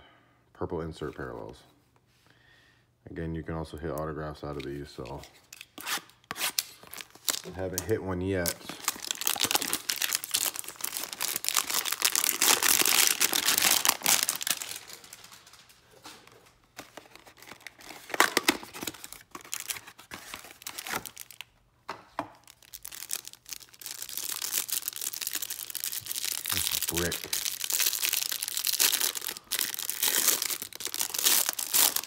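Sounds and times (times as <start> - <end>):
plastic wrapper crinkling: 4.6 - 21.6, 22.3 - 32.0.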